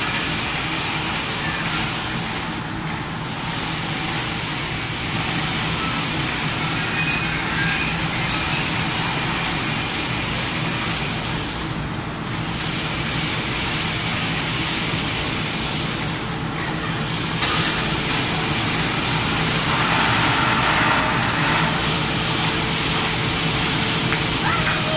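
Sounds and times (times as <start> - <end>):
factory machinery humming and hissing: 0.0 - 24.9.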